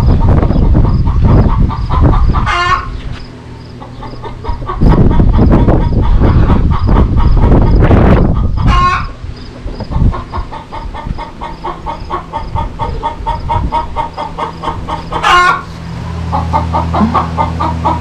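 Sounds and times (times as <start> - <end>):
chicken drawn-out calls: 0.0 - 18.0
chickens clucking: 0.0 - 18.0.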